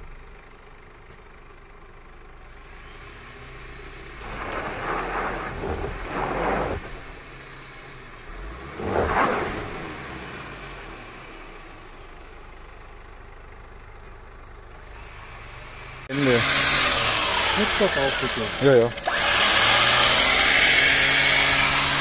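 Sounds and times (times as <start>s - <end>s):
van engine running under load: 0.0s - 22.0s.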